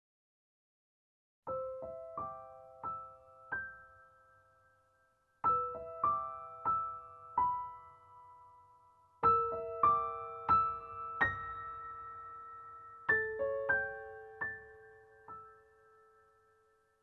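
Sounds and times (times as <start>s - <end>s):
slow piano melody: 1.5s - 17.0s.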